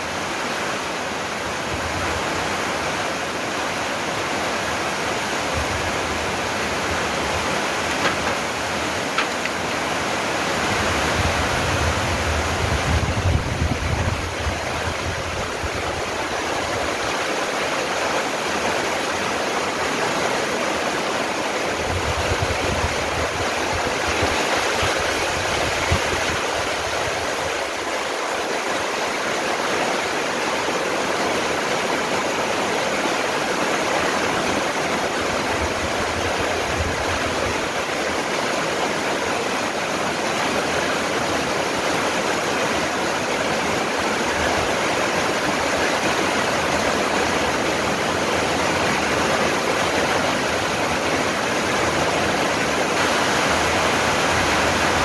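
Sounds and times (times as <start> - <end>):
heavy rain on foliage: 0.0 - 55.0.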